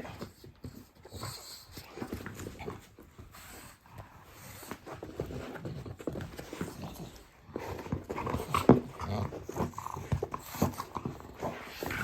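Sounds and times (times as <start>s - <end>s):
dog breathing noisily: 0.0s - 12.0s.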